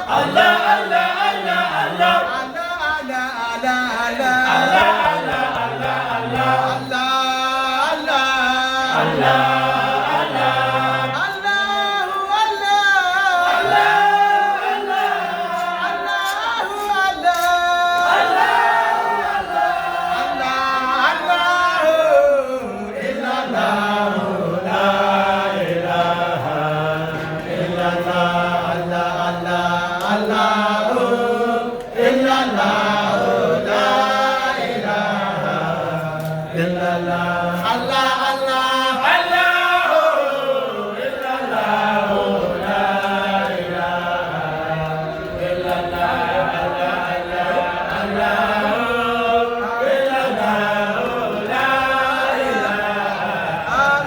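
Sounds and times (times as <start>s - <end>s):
group of voices chanting: 0.0s - 54.0s.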